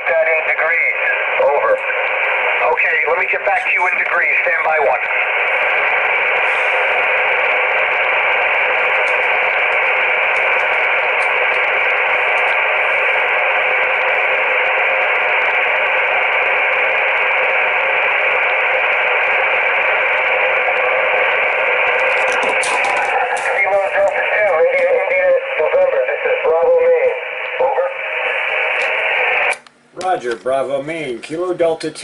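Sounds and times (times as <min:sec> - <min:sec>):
radio static hiss: 0:00.0 - 0:31.7.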